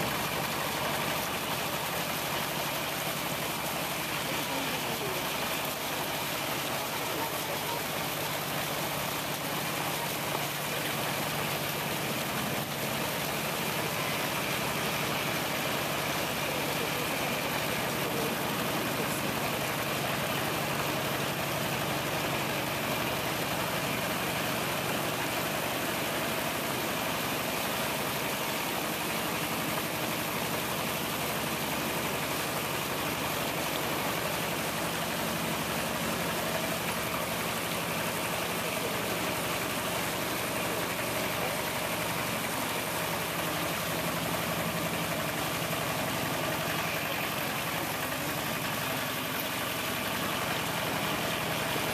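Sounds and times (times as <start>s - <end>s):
vehicle engine running: 0.0s - 51.9s
wash of floodwater: 0.0s - 51.9s.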